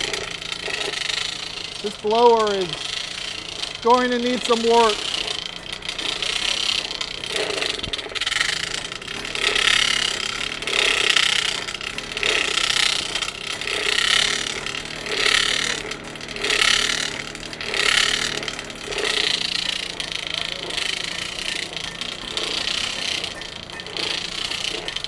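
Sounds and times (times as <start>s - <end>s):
forge blower whirring: 0.0s - 25.0s.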